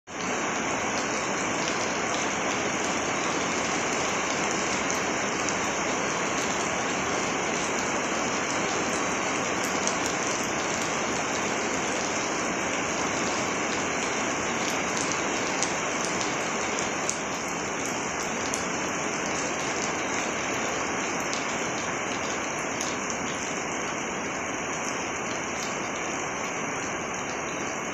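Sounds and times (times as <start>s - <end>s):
heavy rain on pavement: 0.1s - 27.9s.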